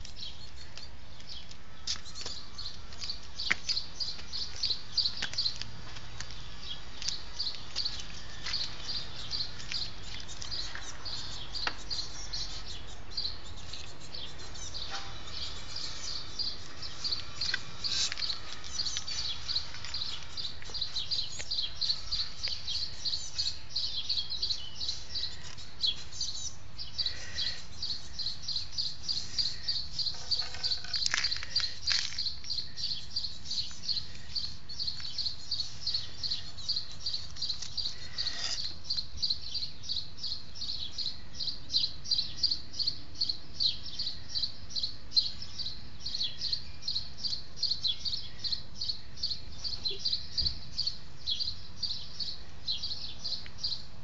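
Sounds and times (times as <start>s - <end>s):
small birds chirping: 0.0s - 54.0s
lower bird calls: 6.7s - 53.8s.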